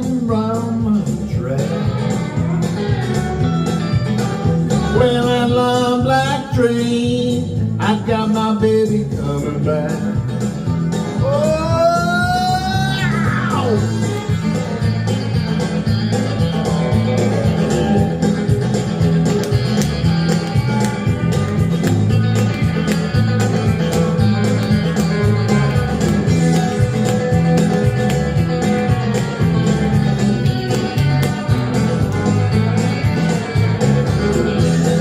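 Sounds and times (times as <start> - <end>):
instrumental country guitar music: 0.0 - 35.0.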